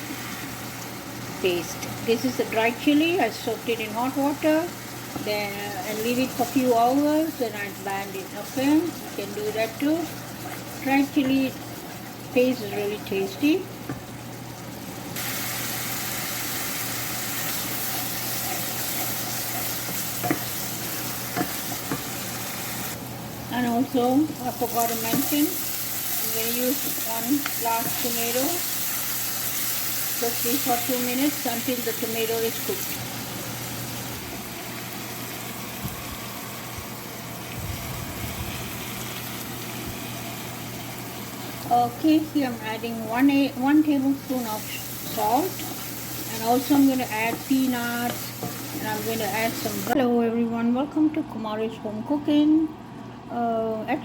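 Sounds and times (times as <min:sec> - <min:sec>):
paste and onions sizzling in oil: 0:00.0 - 0:50.0.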